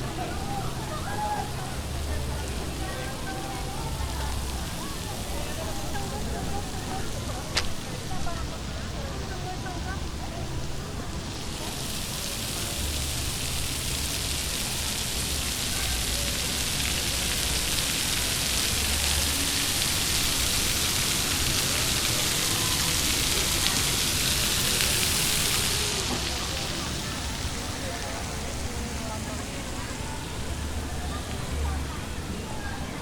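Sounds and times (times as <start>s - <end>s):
faint background chatter: 0.0s - 33.0s
steady spraying hiss: 0.0s - 33.0s.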